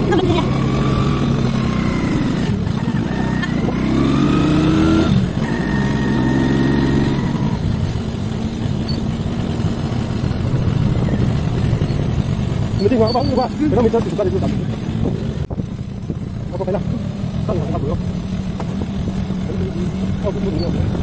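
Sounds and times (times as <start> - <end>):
road and wind noise: 0.0 - 21.0
scooter engine running: 0.0 - 21.0.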